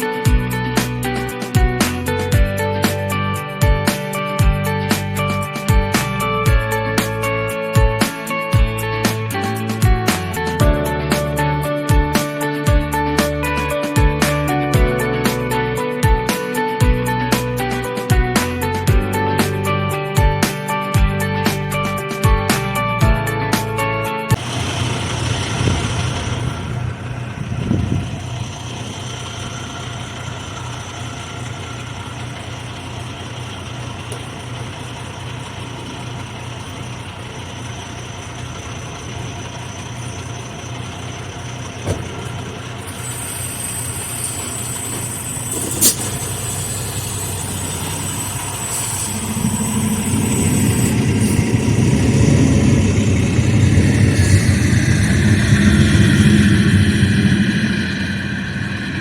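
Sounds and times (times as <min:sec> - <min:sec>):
diesel truck engine hum: 0:00.0 - 0:59.0.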